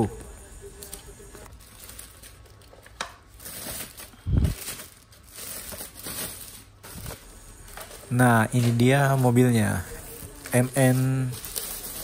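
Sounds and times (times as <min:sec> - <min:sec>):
plastic bag crinkling: 0:00.8 - 0:12.0.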